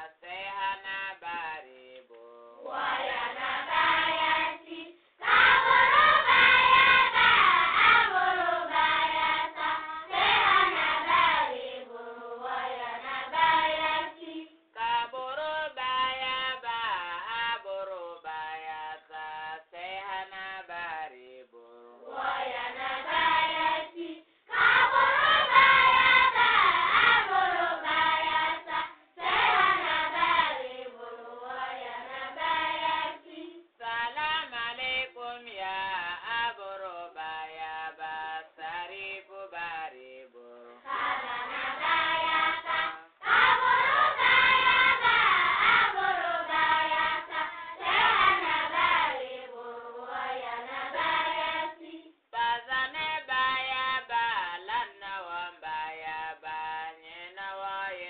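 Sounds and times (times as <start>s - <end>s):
devotional chant singing: 0.0s - 58.0s.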